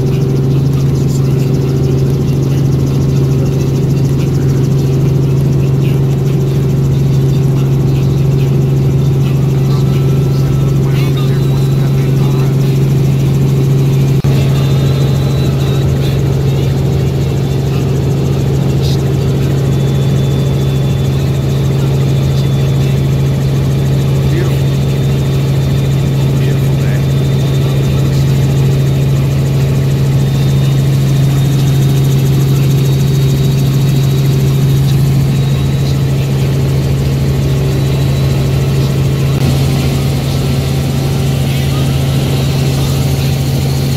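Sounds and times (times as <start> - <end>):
helicopter droning in cabin: 0.0 - 43.9.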